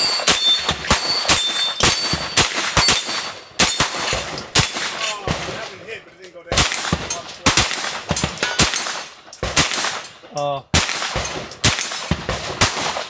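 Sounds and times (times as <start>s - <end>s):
gunshots with echo: 0.0s - 13.0s.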